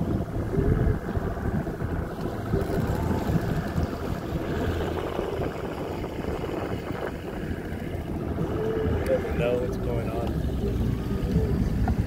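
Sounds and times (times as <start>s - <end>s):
water noise: 0.0s - 12.0s
wind on microphone: 0.0s - 12.0s.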